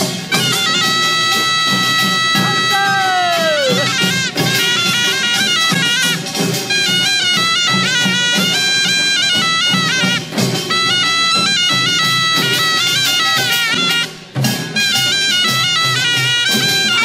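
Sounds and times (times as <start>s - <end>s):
reed wind instrument melody: 0.0s - 17.0s
steady drum beat: 0.0s - 17.0s.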